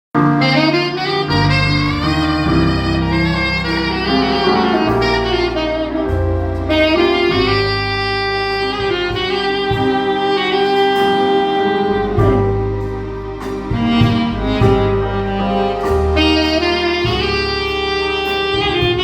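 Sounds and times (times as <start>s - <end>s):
lead instrument melody: 0.2s - 19.0s
low bass line: 0.2s - 19.0s.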